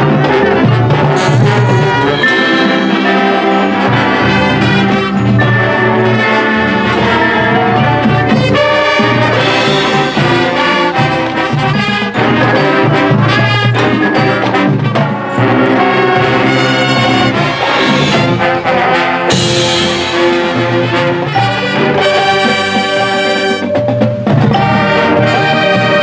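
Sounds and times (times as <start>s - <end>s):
marching band brass playing: 0.0s - 26.0s.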